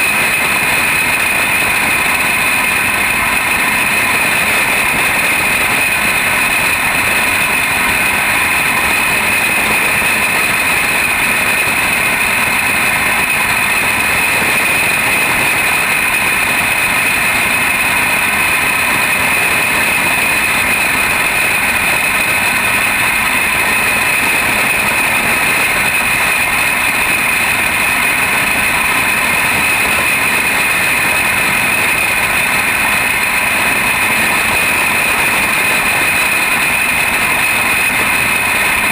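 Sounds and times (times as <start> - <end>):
kart engine running: 0.0 - 38.9.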